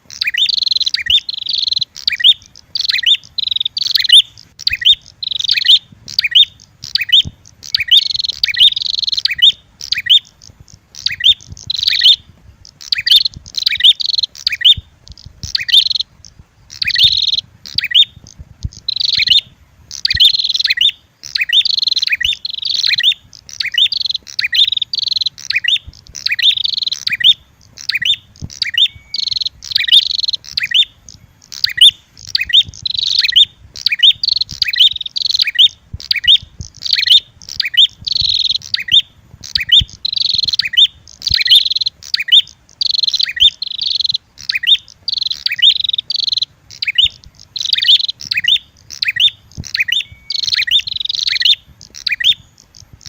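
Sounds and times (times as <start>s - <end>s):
bird chirps and trills: 0.0s - 53.0s.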